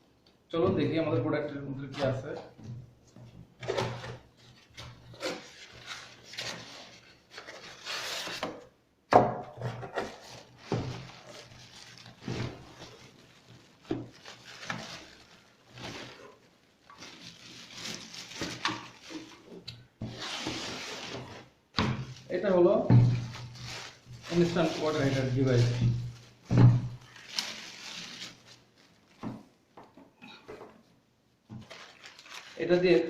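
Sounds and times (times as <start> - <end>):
box and packing rustling: 1.8 - 8.7, 9.6 - 33.0.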